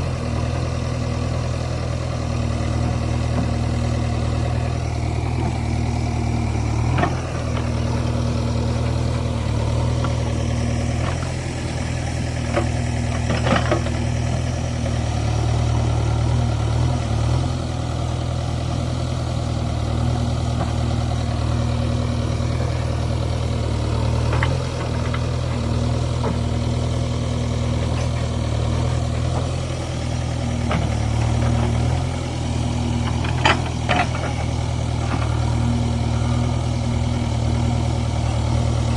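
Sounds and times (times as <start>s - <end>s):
heavy vehicle engine idling: 0.0s - 38.9s.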